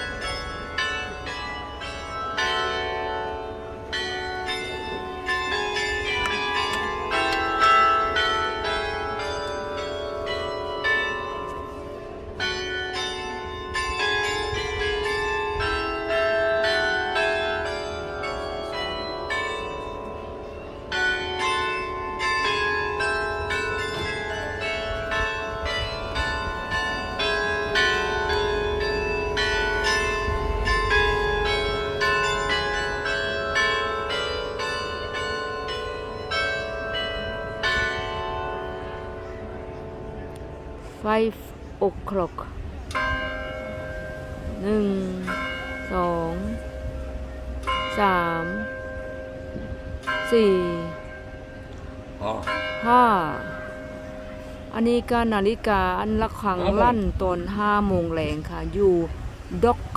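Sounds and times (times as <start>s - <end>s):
clock tower bells playing a tune: 0.0s - 59.9s.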